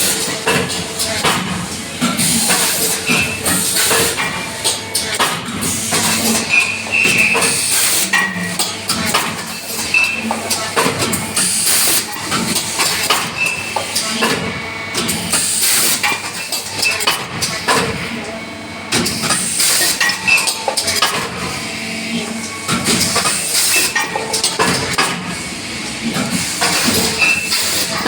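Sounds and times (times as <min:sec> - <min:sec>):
machine knocking and clattering: 0:00.0 - 0:18.0, 0:18.9 - 0:21.5, 0:22.7 - 0:28.0.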